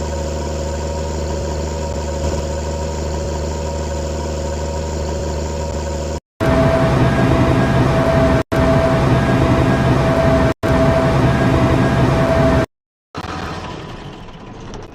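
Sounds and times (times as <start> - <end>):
high whine: 0.0 - 12.7
tractor engine running: 0.0 - 14.9.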